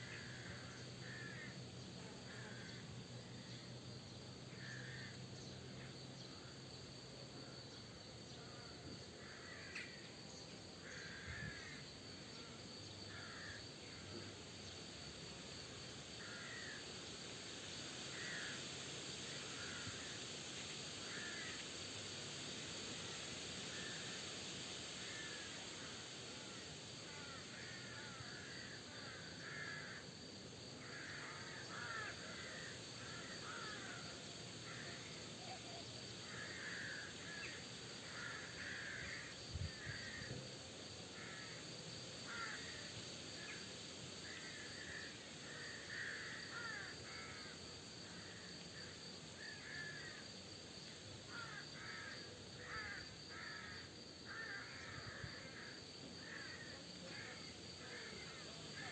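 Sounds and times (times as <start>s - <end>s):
steady background hiss: 0.0s - 58.9s.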